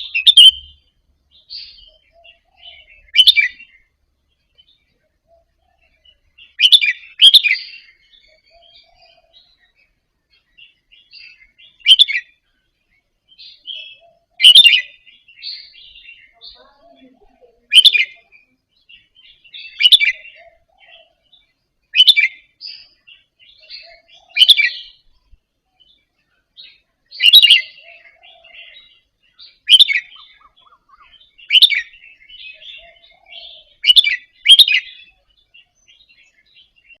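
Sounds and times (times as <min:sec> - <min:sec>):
bird singing chirping phrases: 0:00.0 - 0:37.0
soft bird twittering: 0:00.0 - 0:37.0.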